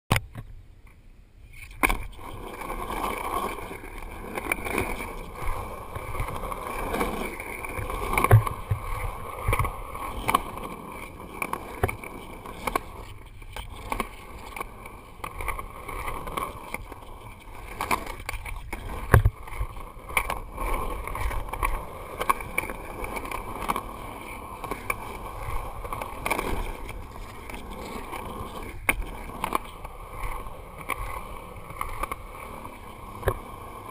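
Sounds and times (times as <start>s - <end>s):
skateboard wheels rolling on concrete: 0.1s - 33.9s
skateboard clacks: 1.6s - 33.9s.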